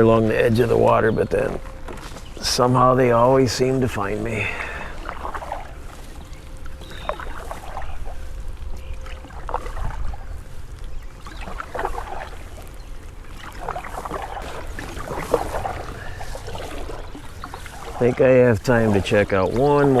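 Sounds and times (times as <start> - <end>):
paddle strokes splashing: 0.0 - 20.0.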